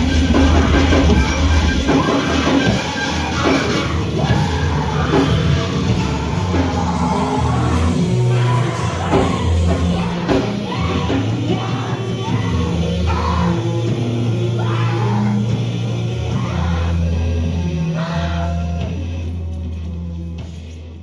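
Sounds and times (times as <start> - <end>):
person yelling singing: 0.0 - 20.1
heavy bass line: 0.0 - 21.0.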